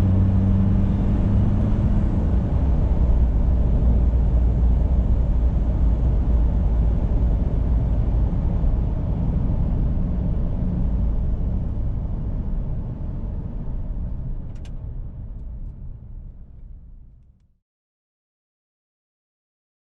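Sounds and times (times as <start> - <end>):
vehicle engine rumble: 0.0 - 17.4.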